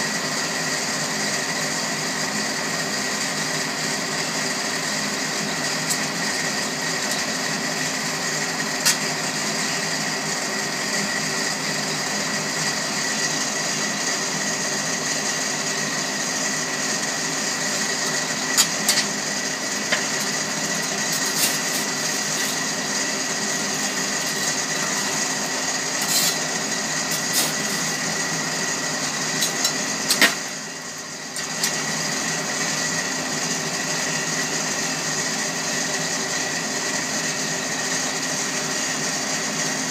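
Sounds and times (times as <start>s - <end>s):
electric blower humming: 3.5s - 39.8s.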